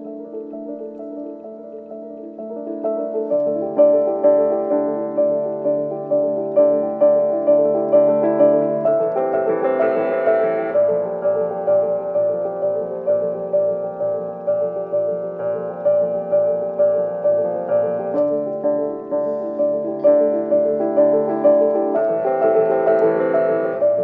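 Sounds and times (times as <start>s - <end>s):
upright piano broken chords: 0.0s - 24.0s.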